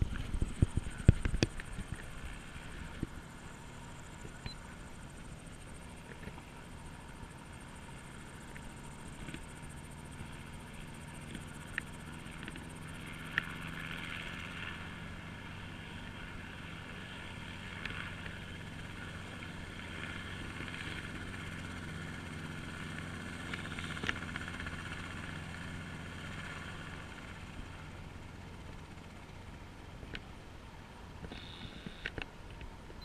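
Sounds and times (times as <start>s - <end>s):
distant helicopter flying: 0.0s - 33.0s.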